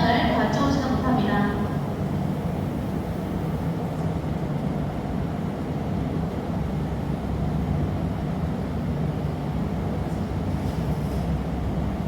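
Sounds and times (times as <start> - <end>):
furnace and ventilation roar: 0.0 - 12.0.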